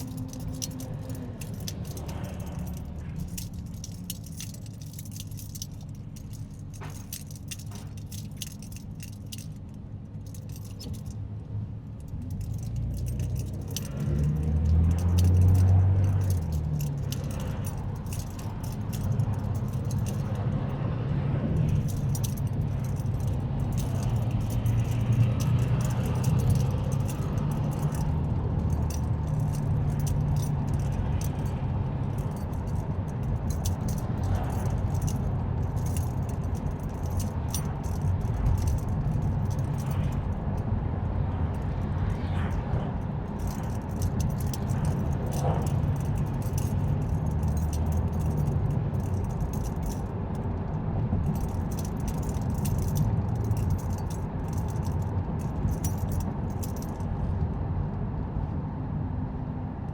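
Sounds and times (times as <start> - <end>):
rattling and jingling clicks: 0.0 - 11.2, 11.8 - 20.6, 21.6 - 40.6, 41.5 - 42.4, 43.2 - 50.5, 51.2 - 57.4
car engine and road rumble: 0.0 - 59.9.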